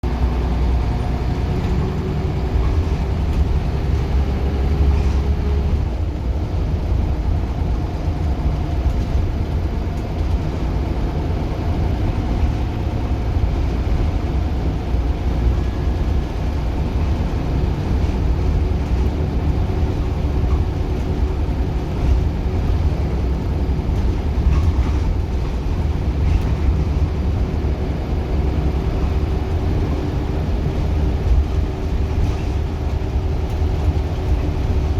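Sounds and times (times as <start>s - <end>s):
bus diesel engine droning: 0.0s - 34.9s.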